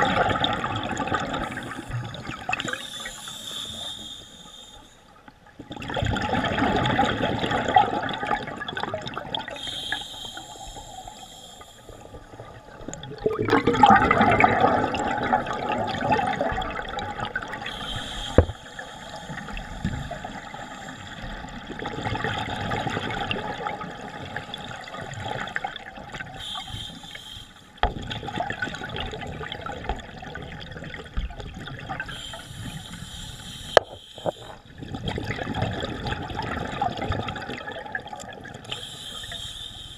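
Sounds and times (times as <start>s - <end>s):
exhaled bubbles rushing underwater: 0.0s - 4.2s, 5.4s - 39.5s.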